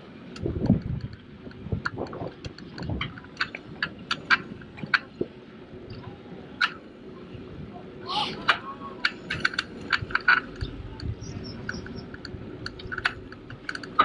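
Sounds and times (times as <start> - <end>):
bike clicks and rattles: 0.0 - 6.9, 8.4 - 14.0
wind on microphone: 0.0 - 14.0.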